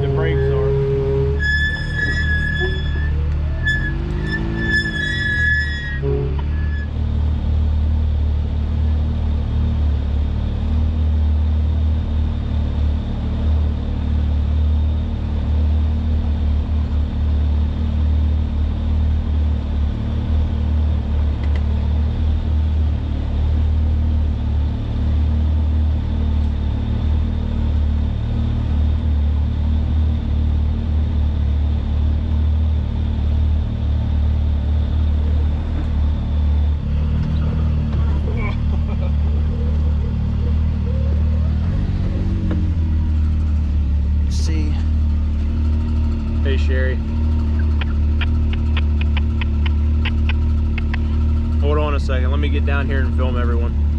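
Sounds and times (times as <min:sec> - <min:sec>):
utility vehicle engine running: 0:00.0 - 0:53.9.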